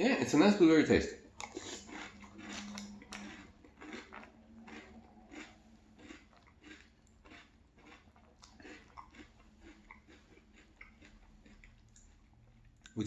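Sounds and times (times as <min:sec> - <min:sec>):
chewing cereal with soft crunches: 0:01.2 - 0:13.0.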